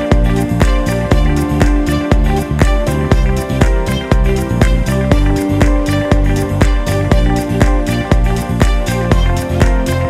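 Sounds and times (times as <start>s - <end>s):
bass line: 0.0s - 10.0s
steady drum beat: 0.0s - 10.0s.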